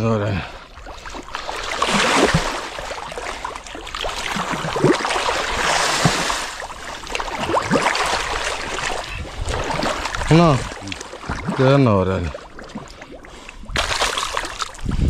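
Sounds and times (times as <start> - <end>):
water sloshing around boat: 0.0 - 15.0.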